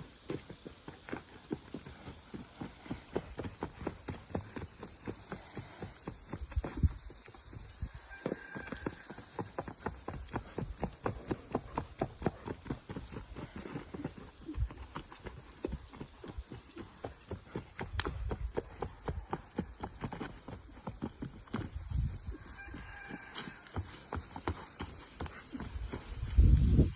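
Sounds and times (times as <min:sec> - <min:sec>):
horse hooves clip-clop: 0:00.0 - 0:26.9.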